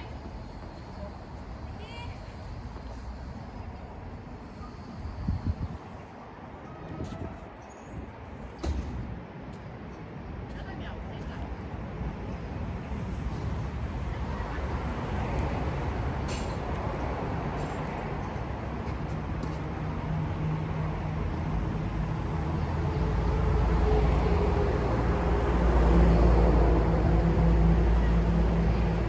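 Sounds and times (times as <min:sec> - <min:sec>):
low rumble of vehicle traffic: 0:00.0 - 0:29.0.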